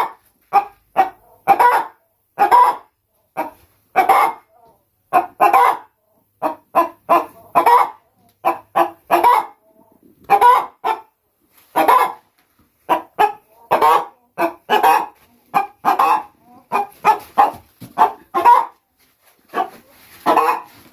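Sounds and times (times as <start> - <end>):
hen cackling: 0.0 - 11.1, 11.7 - 18.8, 19.5 - 20.8.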